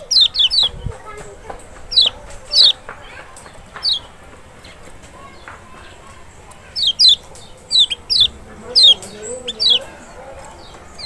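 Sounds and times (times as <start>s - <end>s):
bird high falling chirps: 0.0s - 11.0s.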